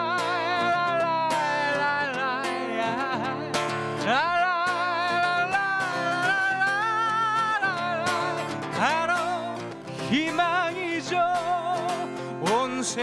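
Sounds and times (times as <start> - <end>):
man singing with vibrato: 0.0 - 13.0
strummed acoustic guitar: 0.0 - 13.0.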